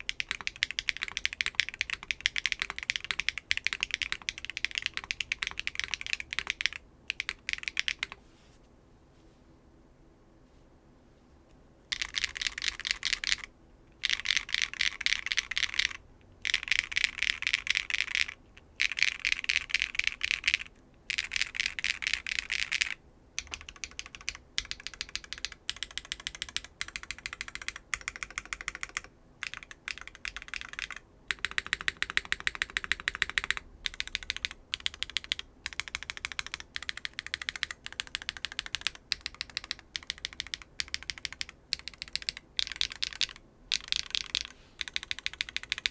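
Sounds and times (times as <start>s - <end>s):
mechanical keyboard typing: 0.0s - 8.2s, 11.9s - 45.9s.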